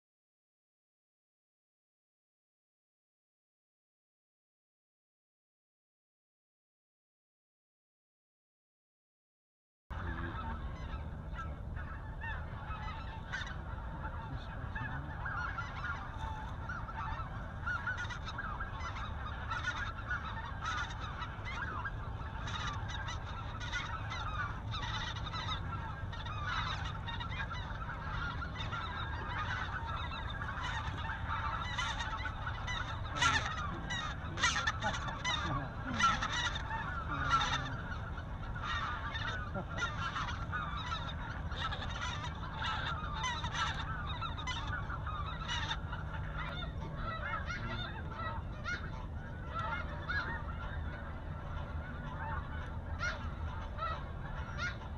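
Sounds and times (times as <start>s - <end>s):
geese honking: 9.9s - 54.9s
sharp goose calls: 9.9s - 54.9s.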